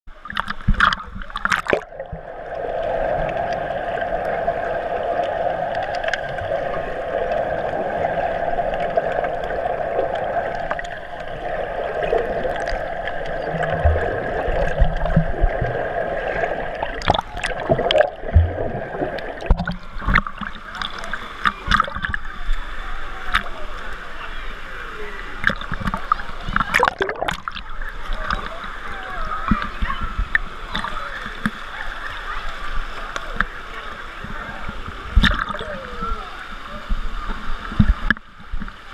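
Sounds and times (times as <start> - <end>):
water splashing and sloshing: 0.1 - 24.6, 25.2 - 38.9
muffled underwater churning: 0.1 - 38.9.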